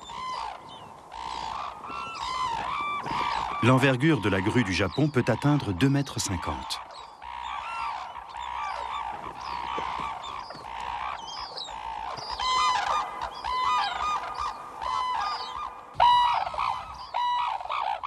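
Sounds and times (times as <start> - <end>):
cranes calling: 0.0 - 18.0.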